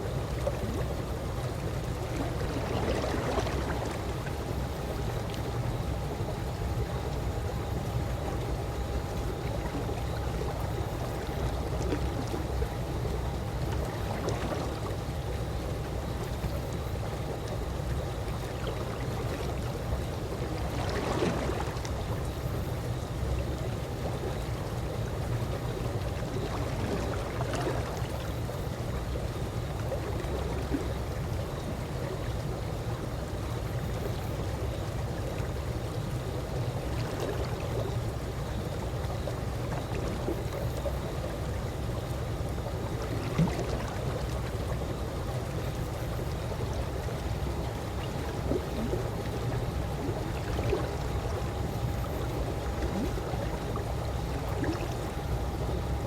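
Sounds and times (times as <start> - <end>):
pool water lapping and gurgling: 0.0 - 56.0.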